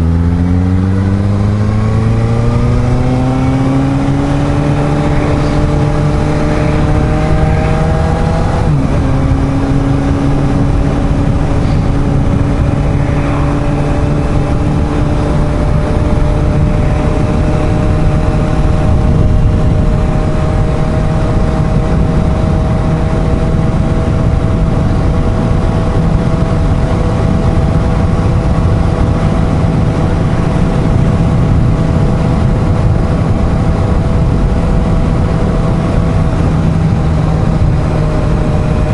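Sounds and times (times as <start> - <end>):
motorcycle engine accelerating: 0.0 - 38.9
wind rush: 0.0 - 38.9.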